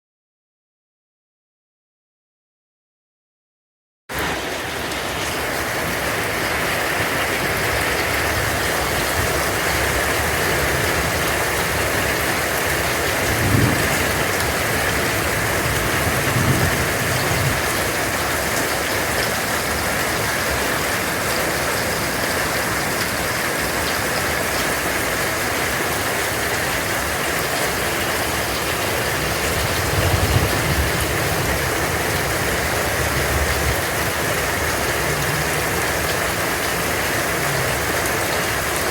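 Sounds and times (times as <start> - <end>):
hail and rain pelting down: 4.1 - 38.9.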